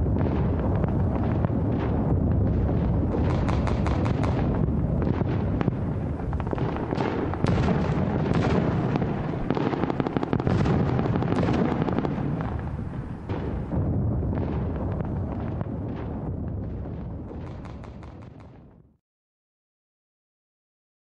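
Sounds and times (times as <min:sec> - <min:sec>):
gunfire cracks: 0:00.0 - 0:18.6
rumble of explosions: 0:00.0 - 0:19.0.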